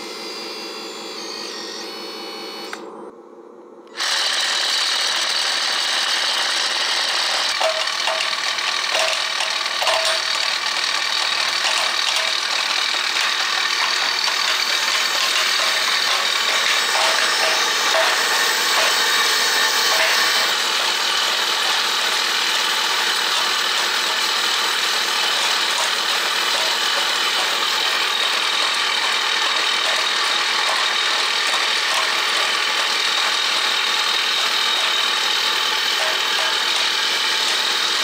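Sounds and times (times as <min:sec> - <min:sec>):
small electric motors whirring: 0:00.0 - 0:03.0, 0:03.9 - 0:38.0.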